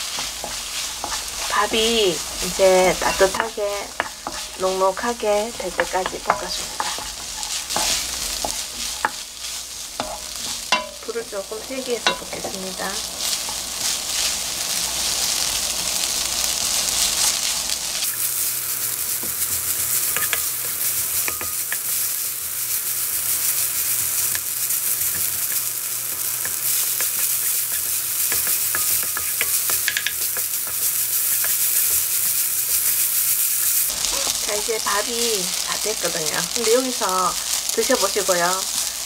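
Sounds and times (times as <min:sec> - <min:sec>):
rice sizzling in a frying pan: 0:00.0 - 0:39.0
wooden spatula scraping: 0:00.0 - 0:39.0.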